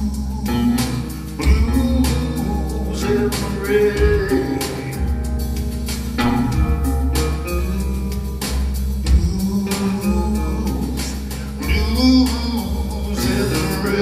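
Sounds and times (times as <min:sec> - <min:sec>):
bass line: 0:00.0 - 0:14.0
electric keyboard: 0:00.0 - 0:14.0
electronic drum pads: 0:00.0 - 0:14.0.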